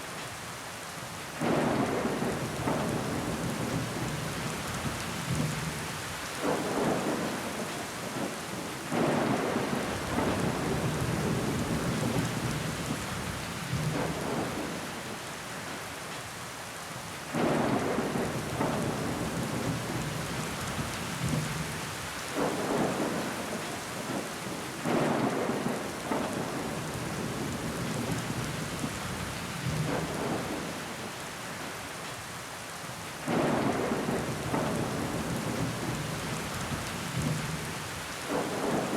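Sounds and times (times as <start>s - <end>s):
rain on window glass: 0.1s - 16.4s, 17.0s - 38.9s.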